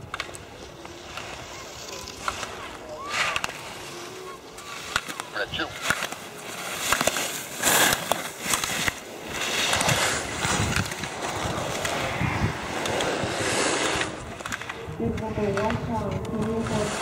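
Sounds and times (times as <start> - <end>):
skis scraping on snow: 0.0 - 17.0.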